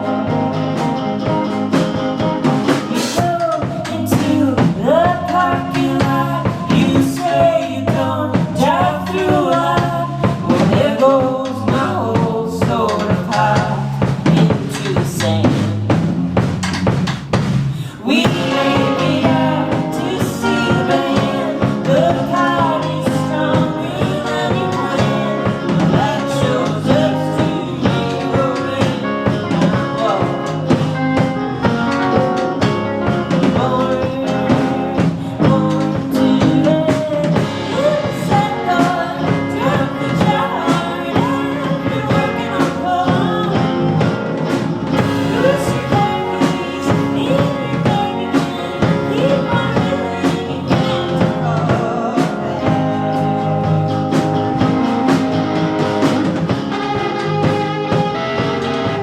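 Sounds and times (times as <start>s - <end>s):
person singing: 0.0s - 15.8s, 17.7s - 59.0s
drums: 0.0s - 59.0s
guitar: 0.0s - 59.0s.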